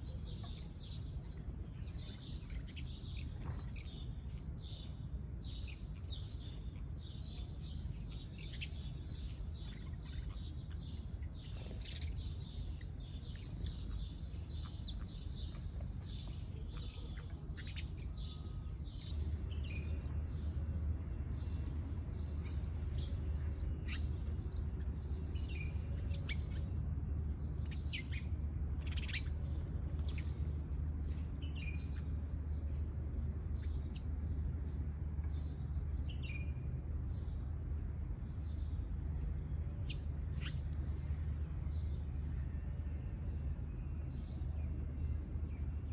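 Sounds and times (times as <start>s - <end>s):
small birds chirping: 0.0s - 45.9s
steady low rumble: 0.0s - 45.9s.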